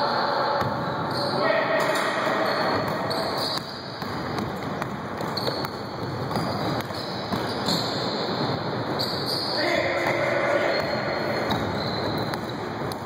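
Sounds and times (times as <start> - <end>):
basketball bouncing on gym floor: 2.4 - 13.0.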